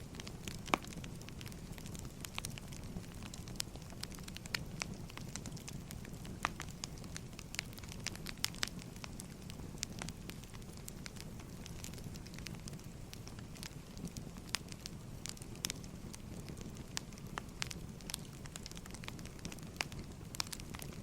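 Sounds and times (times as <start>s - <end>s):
low rumble of burning logs: 0.0s - 21.0s
wood fire crackling: 0.0s - 21.0s.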